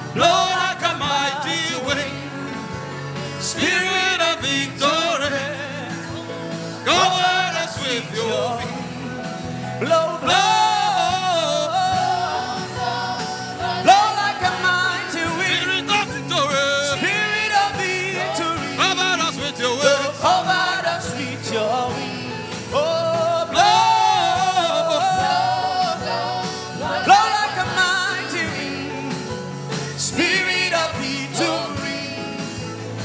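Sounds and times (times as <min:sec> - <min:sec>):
gospel chant singing: 0:00.0 - 0:33.0.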